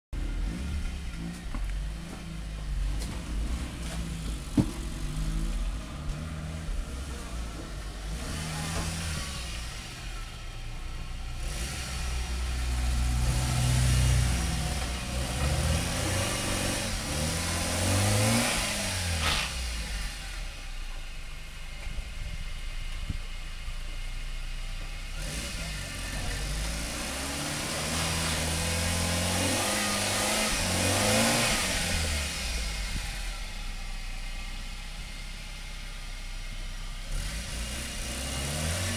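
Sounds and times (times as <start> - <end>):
car engine running: 0.1 - 38.9.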